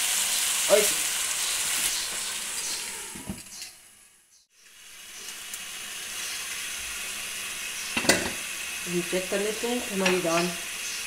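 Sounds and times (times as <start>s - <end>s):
lentils sizzling in a pan: 0.0s - 11.0s.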